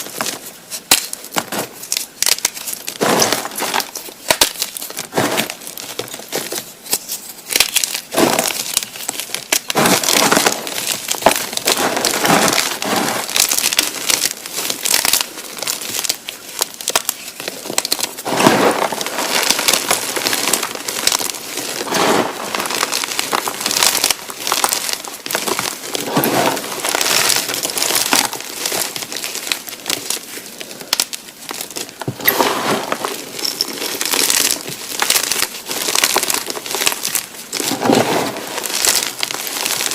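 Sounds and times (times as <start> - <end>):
chalk being crushed by hand: 0.0 - 39.9.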